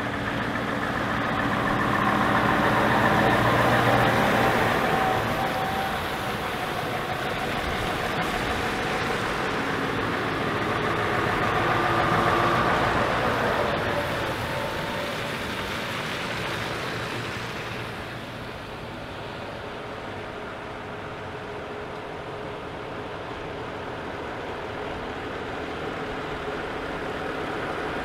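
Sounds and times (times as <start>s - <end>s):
truck diesel engine driving past: 0.0s - 28.0s
tyres on wet asphalt: 0.0s - 28.0s.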